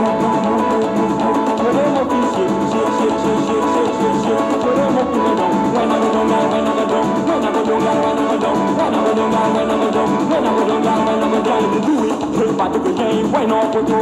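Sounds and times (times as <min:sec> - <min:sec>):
instrumental dance music: 0:00.0 - 0:14.0.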